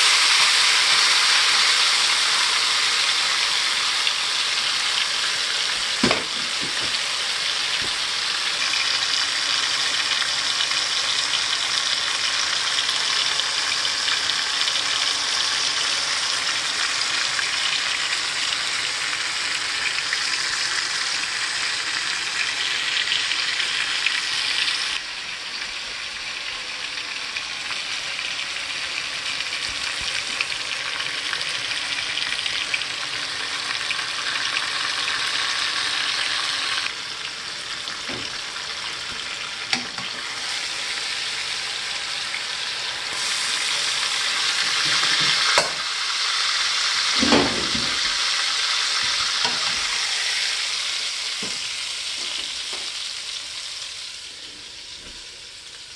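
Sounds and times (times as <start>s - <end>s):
meat sizzling in a pan: 0.0s - 55.9s.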